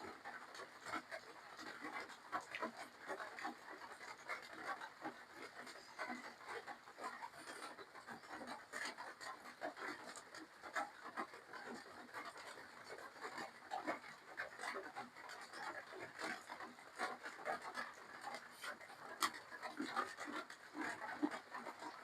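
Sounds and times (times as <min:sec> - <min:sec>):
close chewing and mouth noises: 0:00.1 - 0:22.0.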